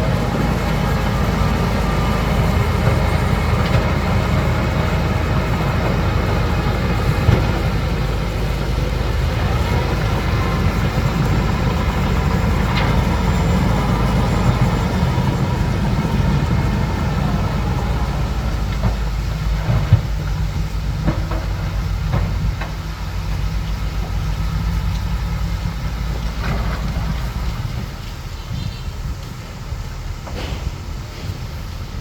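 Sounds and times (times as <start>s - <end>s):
bulldozer tracks clattering: 0.0s - 32.0s
diesel engine rumbling: 0.0s - 32.0s.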